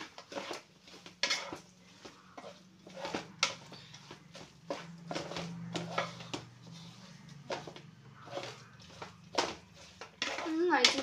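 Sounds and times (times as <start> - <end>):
spatula scraping metal pot: 0.0 - 11.0.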